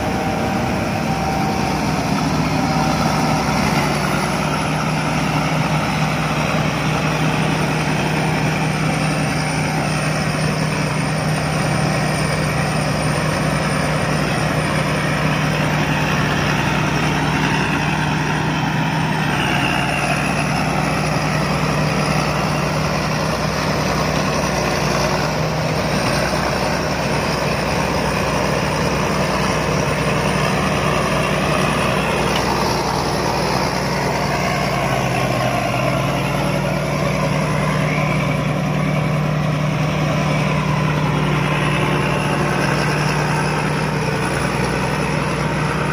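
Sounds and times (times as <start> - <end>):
combine harvester engine and machinery: 0.0 - 45.9.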